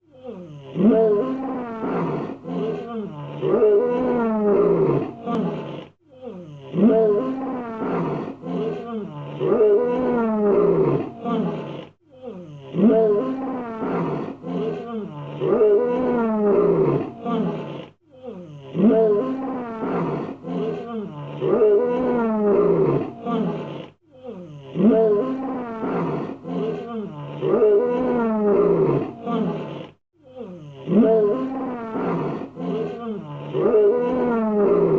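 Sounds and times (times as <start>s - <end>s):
lion roaring and grunting: 0.3s - 6.0s, 6.6s - 18.0s, 18.6s - 30.0s, 30.7s - 34.9s.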